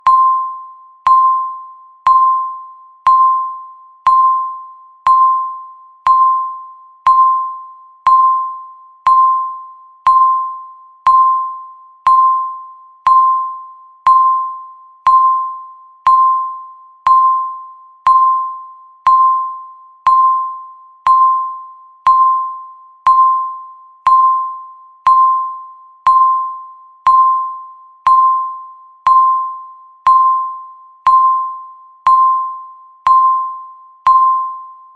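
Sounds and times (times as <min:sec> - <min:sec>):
countdown timer beeping: 0:00.0 - 0:34.8.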